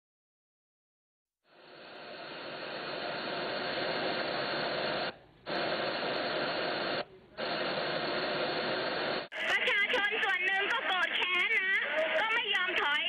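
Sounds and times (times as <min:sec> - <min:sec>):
radio static hiss: 0:01.5 - 0:13.0.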